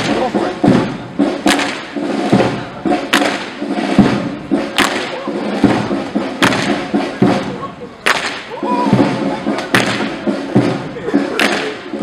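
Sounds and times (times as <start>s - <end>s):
marching footsteps on pavement: 0.0s - 12.0s.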